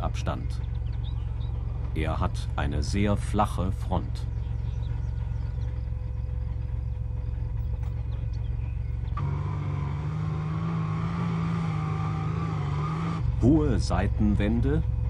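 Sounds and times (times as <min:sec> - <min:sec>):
armoured car engine rumbling: 0:00.0 - 0:15.0.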